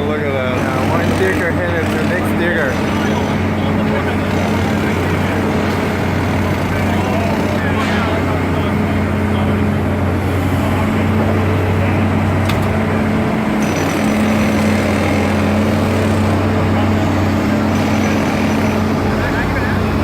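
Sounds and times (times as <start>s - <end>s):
diesel excavator engines droning: 0.0s - 20.0s.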